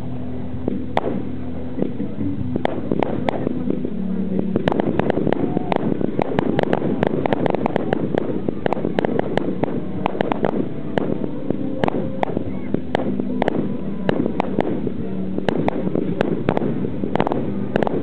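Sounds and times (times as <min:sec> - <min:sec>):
low background rumble: 0:00.0 - 0:18.0
firework bangs and cracks: 0:00.7 - 0:03.9, 0:04.5 - 0:18.0.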